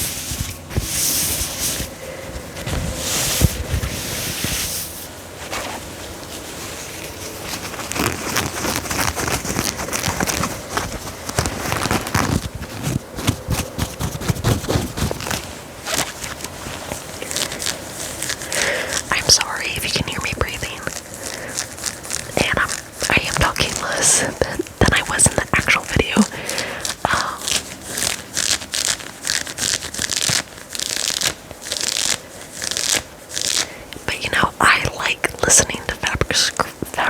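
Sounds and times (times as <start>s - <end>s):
scratching and rubbing on fabric: 0.0s - 37.0s.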